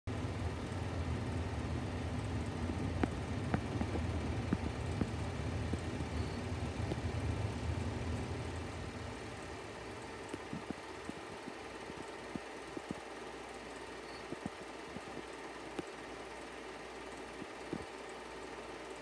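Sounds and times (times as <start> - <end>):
low mechanical hum: 0.1 - 19.0.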